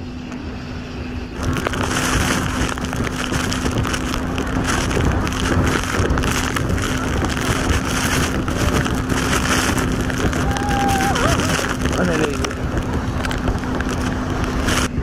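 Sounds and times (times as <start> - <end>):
jet ski engine droning: 0.0 - 15.0
wind buffeting microphone: 0.0 - 15.0.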